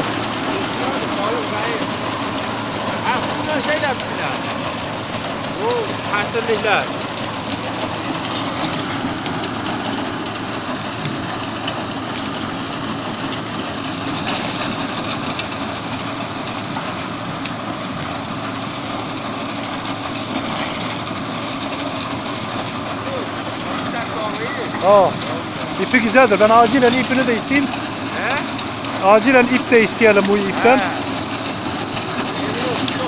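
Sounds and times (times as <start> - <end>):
reed stems rustling and crackling: 0.0 - 33.0
tractor and machine running: 0.0 - 33.0.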